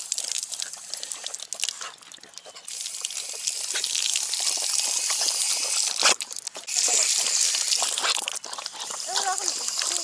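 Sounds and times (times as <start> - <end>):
dog lapping water: 0.0 - 10.0
water splattering on wet concrete: 0.0 - 10.0.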